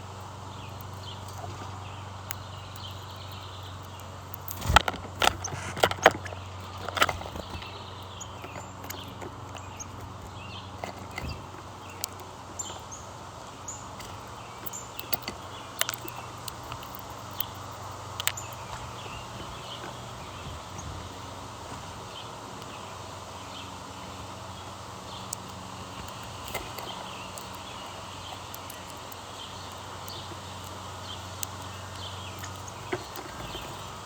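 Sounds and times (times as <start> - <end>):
small birds chirping: 0.0 - 34.0
steady low hum: 0.0 - 34.0.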